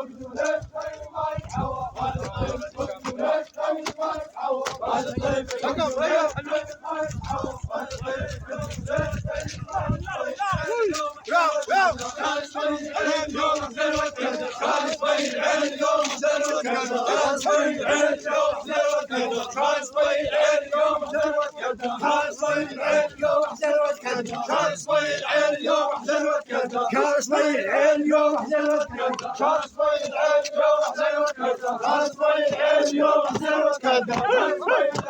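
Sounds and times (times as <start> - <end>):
men chanting in unison: 0.0 - 35.0.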